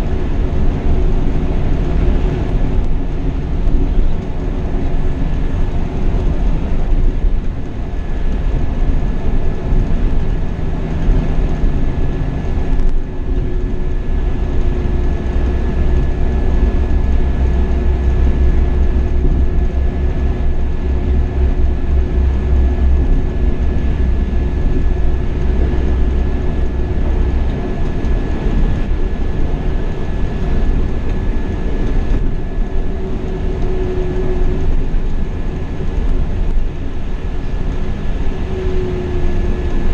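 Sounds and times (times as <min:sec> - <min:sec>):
deep rumble: 0:00.0 - 0:39.9
diesel engine drone: 0:00.0 - 0:39.9
road noise: 0:00.0 - 0:39.9.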